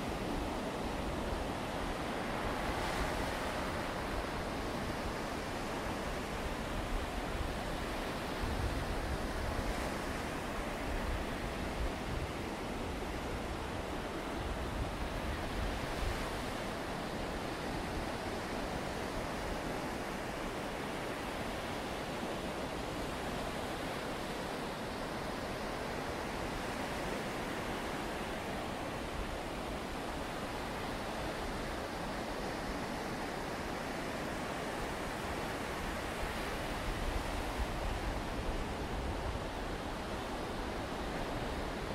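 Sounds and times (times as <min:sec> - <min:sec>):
sea surf on beach: 0:00.0 - 0:41.9
wind: 0:00.0 - 0:41.9.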